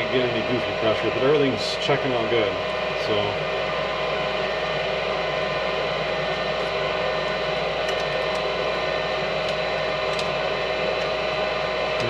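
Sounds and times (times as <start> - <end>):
furnace fans humming: 0.0 - 12.0.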